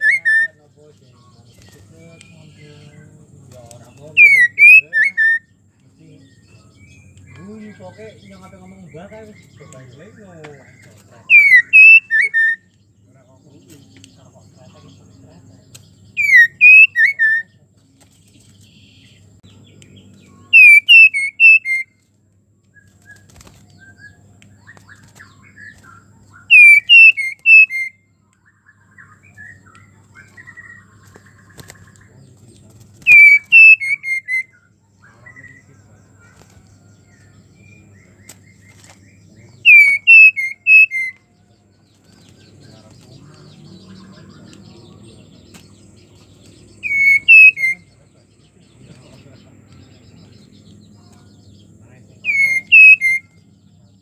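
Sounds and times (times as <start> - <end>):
bird calling falling phrases: 0.0 - 0.8, 1.5 - 12.7, 14.9 - 17.6, 20.2 - 22.0, 22.7 - 51.6, 52.2 - 53.4
soft quiet bird notes: 0.0 - 54.0.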